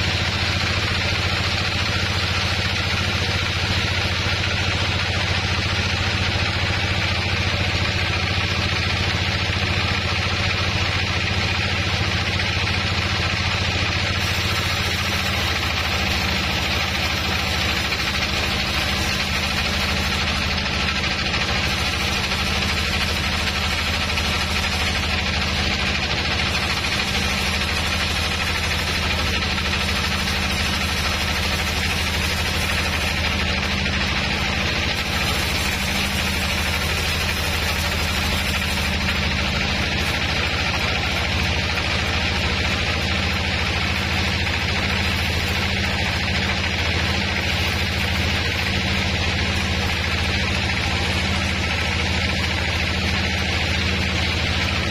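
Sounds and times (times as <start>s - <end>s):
band sawmill machine hum: 0.0s - 54.9s
saw blade cutting log: 0.0s - 54.9s.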